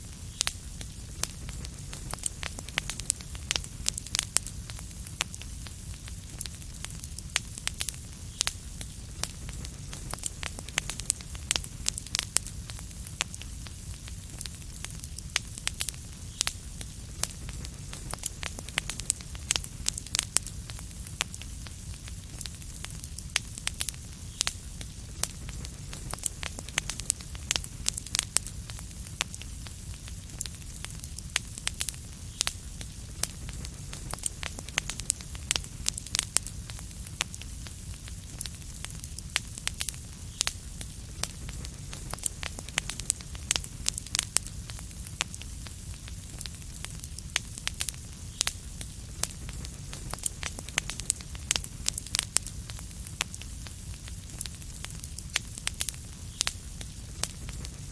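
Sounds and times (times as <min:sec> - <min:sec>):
low rumble and soft hiss: 0:00.0 - 0:57.9
wood fire crackling and popping: 0:00.0 - 0:57.9.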